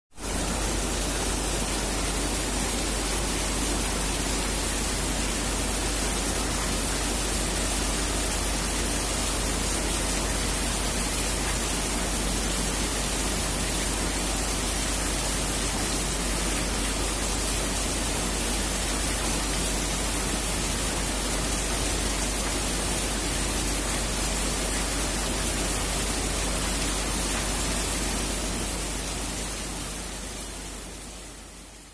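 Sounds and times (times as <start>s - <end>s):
heavy rain: 0.2s - 31.9s.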